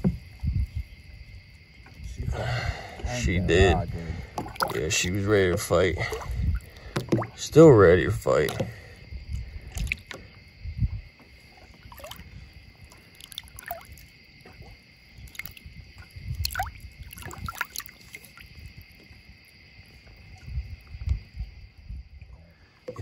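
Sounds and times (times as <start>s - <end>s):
water sloshing against boat: 0.0s - 1.0s, 1.6s - 23.0s.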